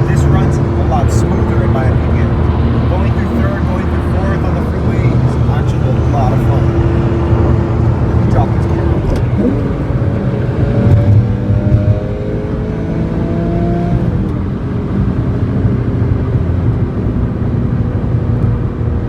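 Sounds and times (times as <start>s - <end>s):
car engine accelerating: 0.0s - 19.0s
road noise drone: 0.0s - 19.0s.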